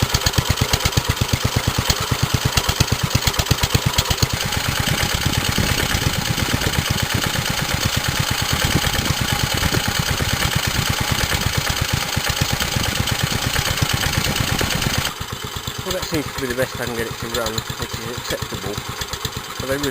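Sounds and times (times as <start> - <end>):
stationary petrol engine running: 0.0 - 19.9.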